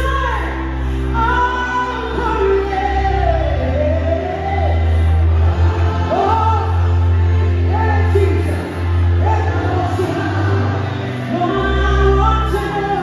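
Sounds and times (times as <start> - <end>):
woman singing: 0.0 - 5.2, 6.0 - 13.0.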